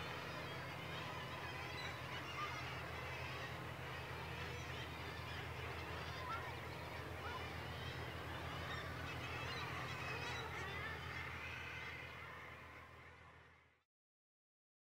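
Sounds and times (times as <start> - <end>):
seabird colony calling: 0.0 - 12.8.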